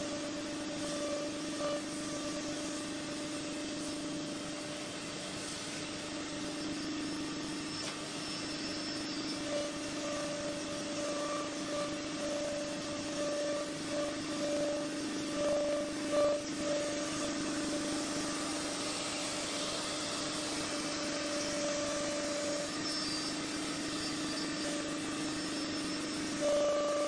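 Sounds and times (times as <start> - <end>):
cutter pulsing high tone: 0.0 - 27.0
router spindle whine: 0.0 - 27.0.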